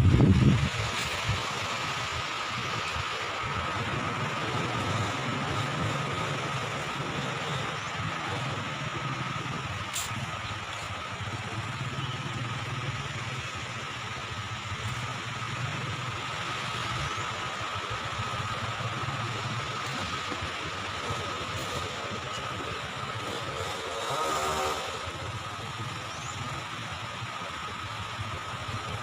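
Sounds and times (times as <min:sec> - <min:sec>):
constant rushing noise: 0:00.0 - 0:29.0
small engine running: 0:00.1 - 0:29.0.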